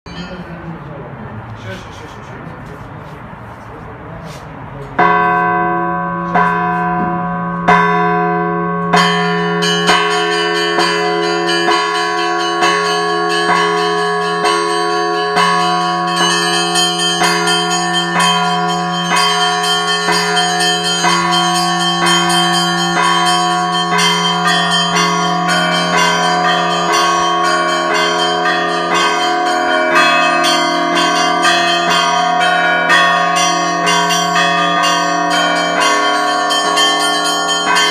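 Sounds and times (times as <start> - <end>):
low bell ringing: 0.1 - 1.3, 5.0 - 37.9
church bells ringing: 0.1 - 1.9, 4.9 - 37.9.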